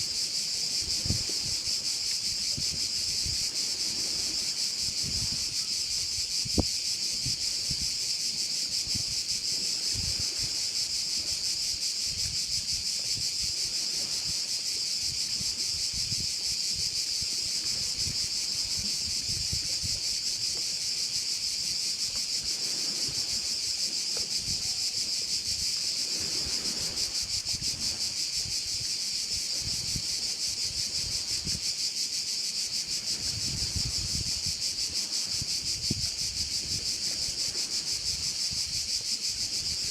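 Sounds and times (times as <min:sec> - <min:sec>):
wind rumble on microphone: 0:00.0 - 0:31.9, 0:32.6 - 0:39.9
crickets trilling: 0:00.0 - 0:39.9.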